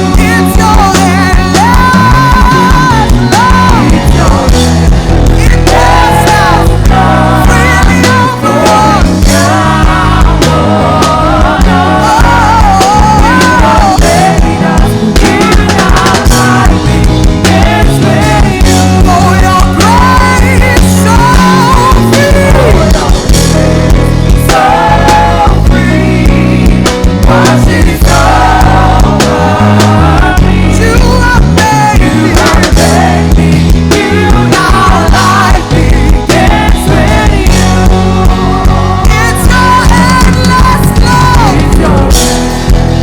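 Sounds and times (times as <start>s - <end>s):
live worship band music: 0.0s - 43.0s.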